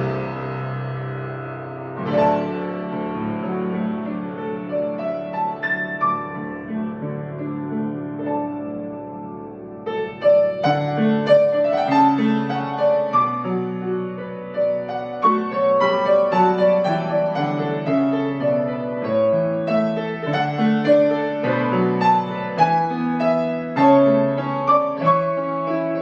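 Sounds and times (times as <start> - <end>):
solo piano playing hymn chords: 0.0 - 26.0.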